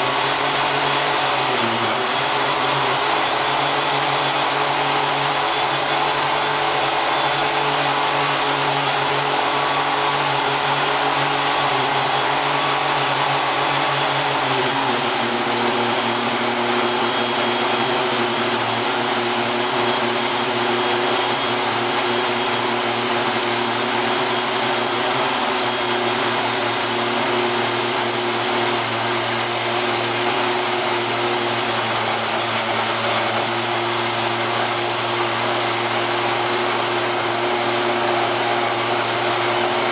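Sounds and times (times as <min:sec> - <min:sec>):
power cutting machine running: 0:00.0 - 0:39.9.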